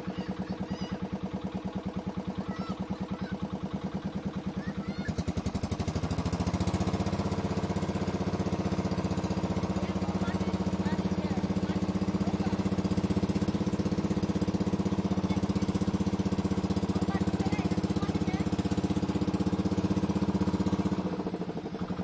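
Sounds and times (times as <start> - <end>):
motor boat engine thudding: 0.0 - 22.0.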